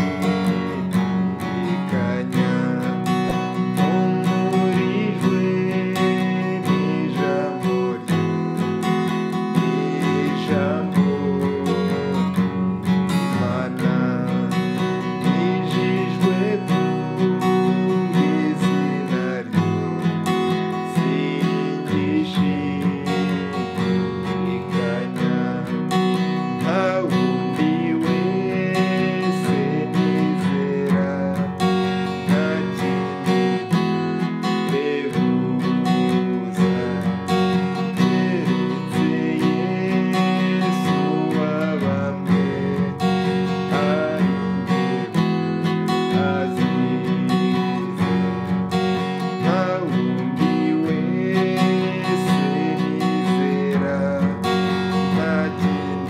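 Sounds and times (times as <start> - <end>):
acoustic guitar strumming: 0.0 - 56.0
man singing a hymn: 0.0 - 56.0.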